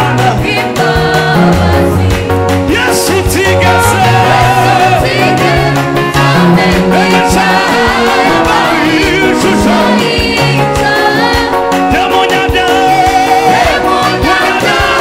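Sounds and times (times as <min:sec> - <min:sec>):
men singing together: 0:00.0 - 0:02.0, 0:02.7 - 0:15.0
band with bass and drums: 0:00.0 - 0:15.0.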